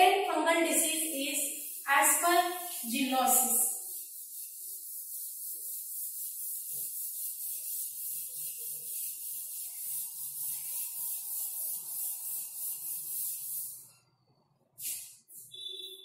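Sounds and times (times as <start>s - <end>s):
duster rubbing a chalkboard: 0.6s - 14.0s
chalk scraping: 0.7s - 14.0s.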